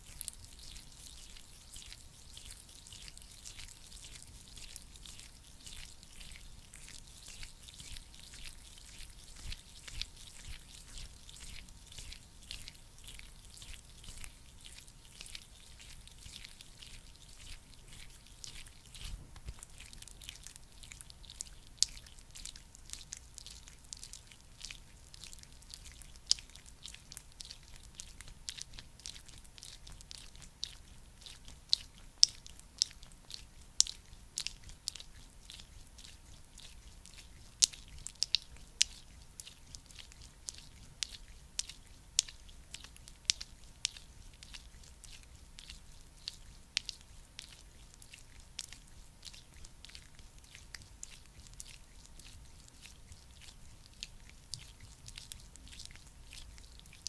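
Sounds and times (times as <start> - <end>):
sticky wet crackling of cream: 0.0 - 57.0.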